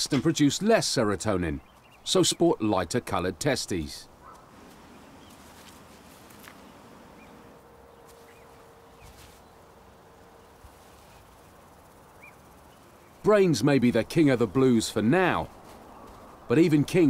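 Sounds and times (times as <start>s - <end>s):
low outdoor hiss: 0.0s - 17.0s.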